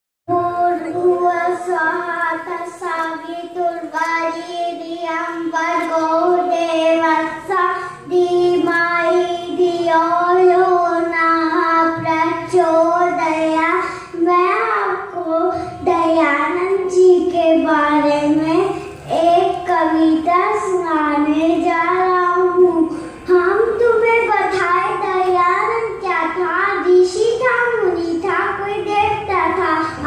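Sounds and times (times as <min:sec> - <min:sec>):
boy singing into a microphone: 0:00.3 - 0:30.0.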